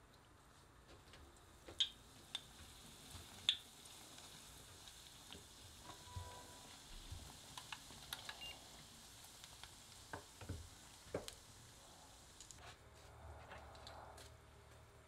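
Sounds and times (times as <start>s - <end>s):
oil sizzling with pops: 0.0s - 12.6s.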